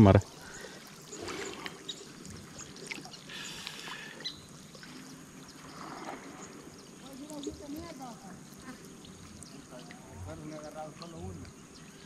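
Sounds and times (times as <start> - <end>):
water trickling and sloshing: 0.0 - 12.0.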